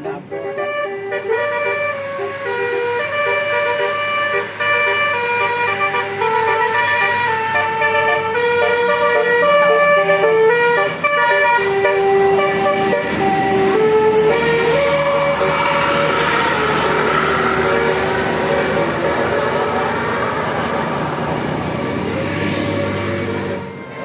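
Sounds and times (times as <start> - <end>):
multi-tone bus horn playing a tune: 0.0 - 24.0.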